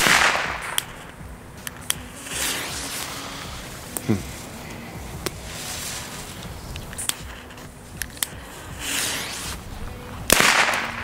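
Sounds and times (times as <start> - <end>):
firecracker burst: 0.0 - 11.0
firecracker cracks: 0.0 - 11.0
firecracker hiss: 0.0 - 11.0.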